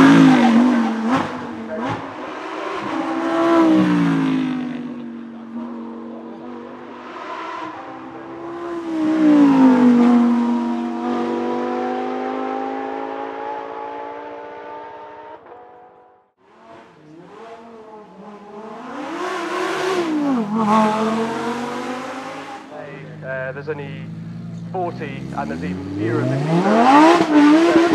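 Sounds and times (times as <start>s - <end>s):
sports car engine revving: 0.0s - 27.9s
sports car passing at speed: 0.0s - 27.9s.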